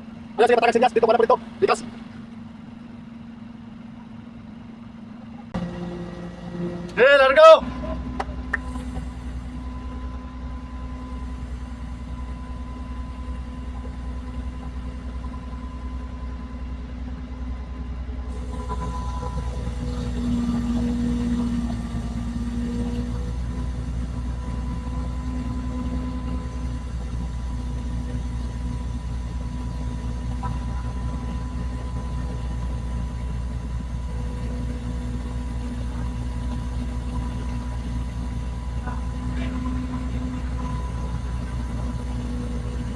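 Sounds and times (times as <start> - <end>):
engine idling: 0.0 - 42.9
faint steady whine: 0.0 - 42.9.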